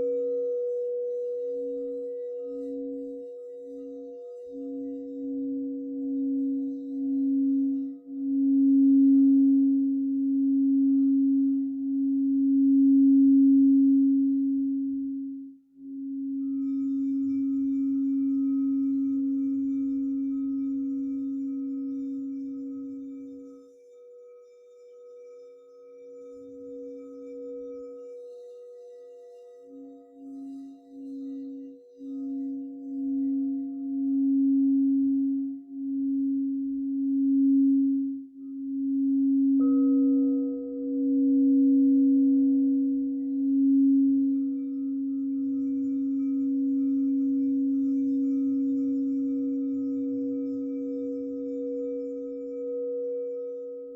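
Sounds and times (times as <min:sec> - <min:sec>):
singing bowl ringing tone: 0:00.0 - 0:53.9.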